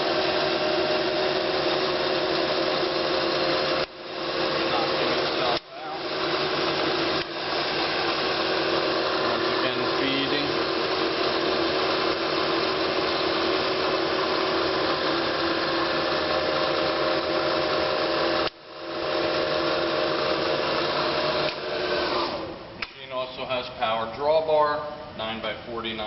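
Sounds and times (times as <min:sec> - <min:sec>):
mill head whining: 0:00.0 - 0:22.7.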